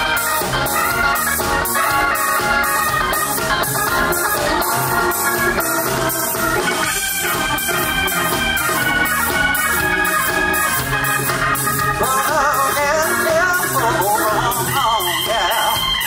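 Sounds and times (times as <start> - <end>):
drums steady beat: 0.0 - 16.0
organ chords: 0.0 - 16.0.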